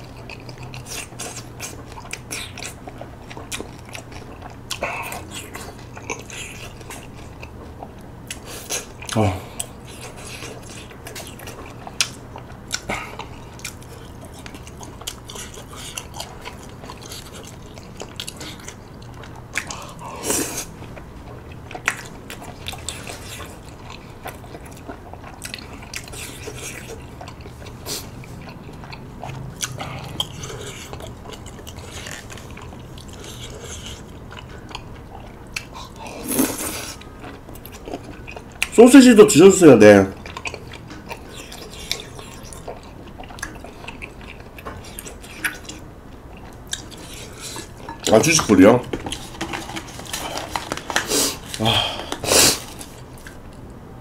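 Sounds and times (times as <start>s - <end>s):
close chewing with wet mouth sounds: 0.0s - 53.7s.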